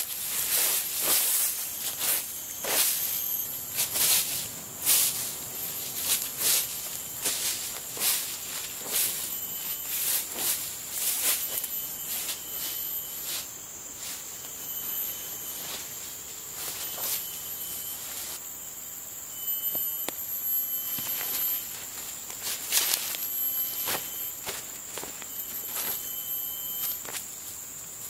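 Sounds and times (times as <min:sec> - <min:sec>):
footsteps in dry leaf litter: 0:00.0 - 0:18.4, 0:20.9 - 0:26.2
insects droning: 0:00.0 - 0:28.0.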